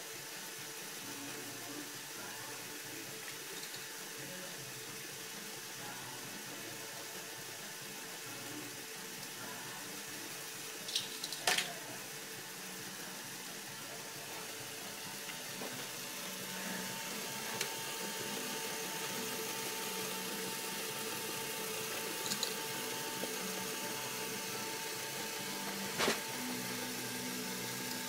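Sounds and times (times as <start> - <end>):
toy motors whirring: 0.0 - 28.0.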